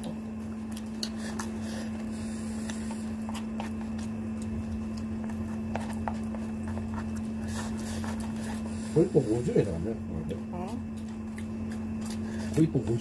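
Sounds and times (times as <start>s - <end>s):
steady low hum: 0.0s - 13.0s
person chewing crunchy food: 0.3s - 13.0s.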